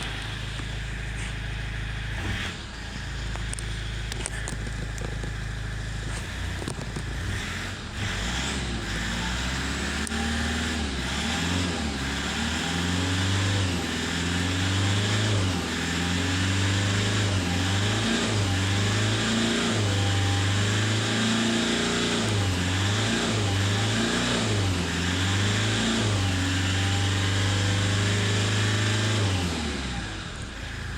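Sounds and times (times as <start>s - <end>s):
diesel engine revving: 0.0s - 30.9s.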